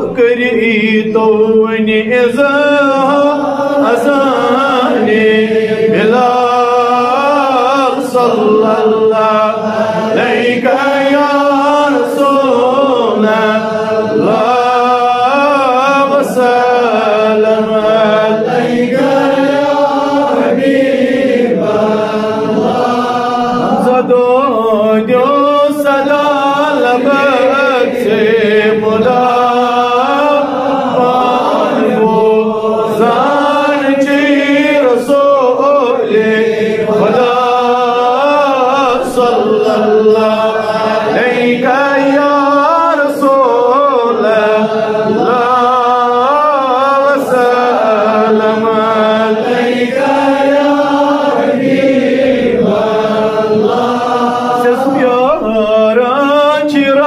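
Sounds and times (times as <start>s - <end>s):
person chanting devotional song: 0.0s - 57.0s.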